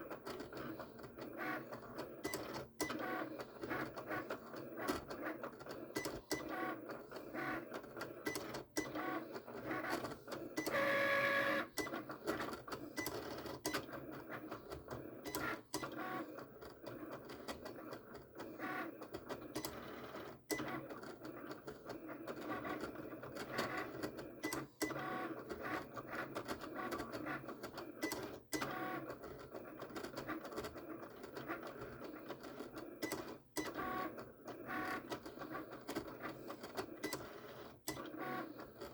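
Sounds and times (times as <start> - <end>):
cutting machine motors whirring: 0.0 - 38.9.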